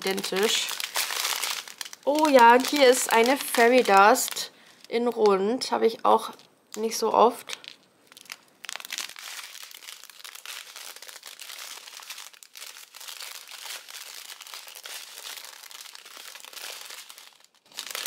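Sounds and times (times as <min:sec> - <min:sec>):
plastic bags crinkling: 0:00.0 - 0:05.4, 0:06.2 - 0:18.0.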